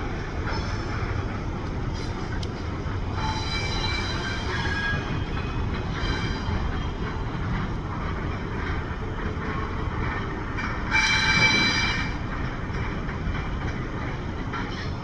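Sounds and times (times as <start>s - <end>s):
diesel locomotives rumbling: 0.0s - 15.0s.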